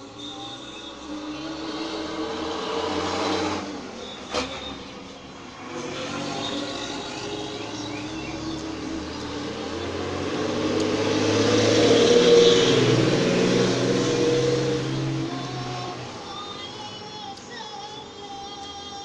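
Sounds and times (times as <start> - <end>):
passing vehicle engine: 0.0 - 18.2.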